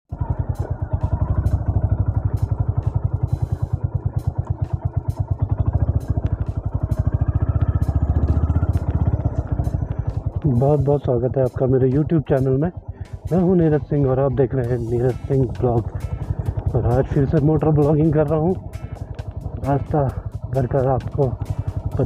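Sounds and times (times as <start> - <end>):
motorcycle engine running: 0.1 - 22.0.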